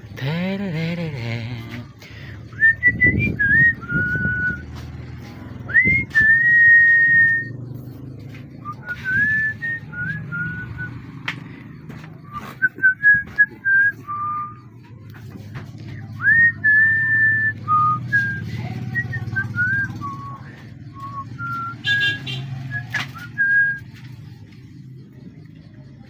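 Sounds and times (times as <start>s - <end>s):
person whistling a slow tune: 0.1s - 11.2s, 12.2s - 15.0s, 15.8s - 24.4s.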